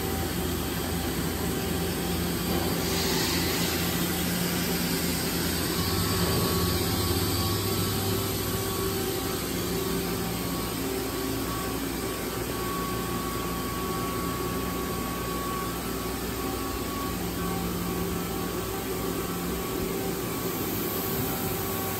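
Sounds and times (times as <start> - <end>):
industrial machinery hum: 0.0 - 21.9.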